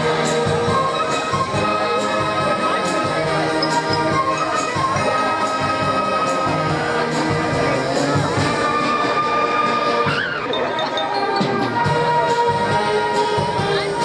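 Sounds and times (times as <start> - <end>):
brass and wind chords: 0.0 - 14.0.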